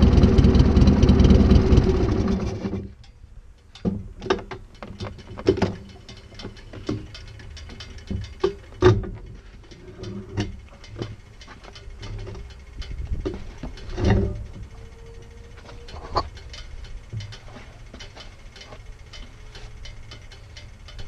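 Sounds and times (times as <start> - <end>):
motorcycle engine idling: 0.0 - 3.1, 4.7 - 21.0.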